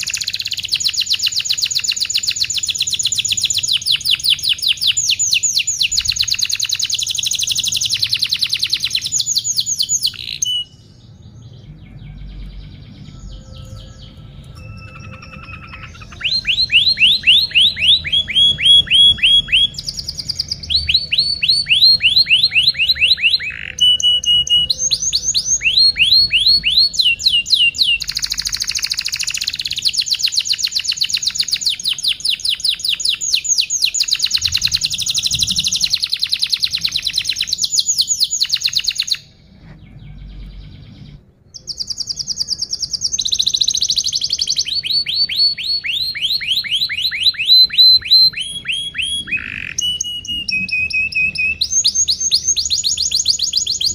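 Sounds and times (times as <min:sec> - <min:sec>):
canary singing rapid trills: 0:00.0 - 0:53.9.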